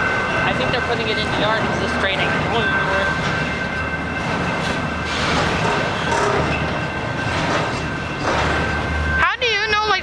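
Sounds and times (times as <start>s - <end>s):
freight train rumbling: 0.0s - 10.0s.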